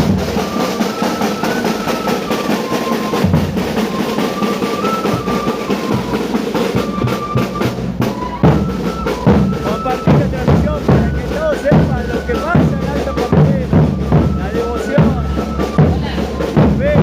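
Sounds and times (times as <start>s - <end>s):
drums beating: 0.0s - 17.0s.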